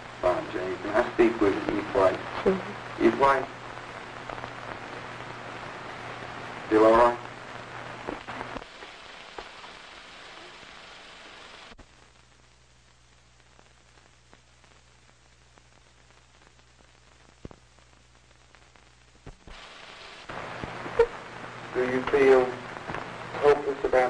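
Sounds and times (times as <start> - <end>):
recording hiss: 0.0 - 24.0
steady low hum: 0.0 - 24.0.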